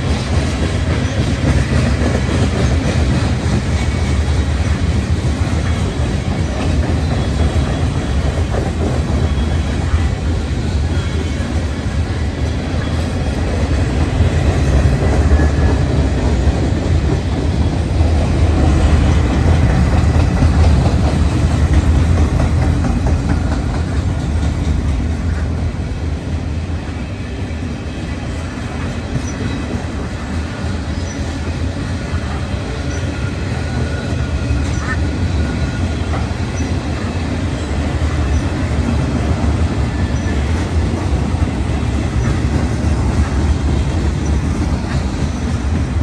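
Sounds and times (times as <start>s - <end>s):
freight train cars rolling past: 0.0s - 46.0s.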